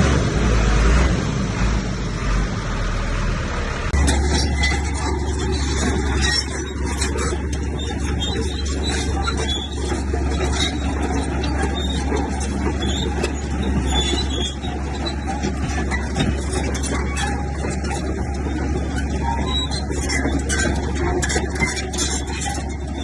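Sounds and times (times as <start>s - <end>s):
heavy diesel machinery drone: 0.0s - 23.0s
short high squeals: 4.0s - 23.0s.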